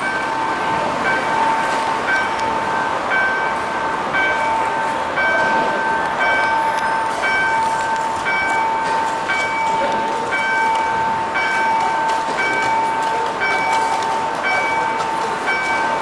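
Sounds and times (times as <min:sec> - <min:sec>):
electronic crossing bell chiming: 0:00.0 - 0:16.0.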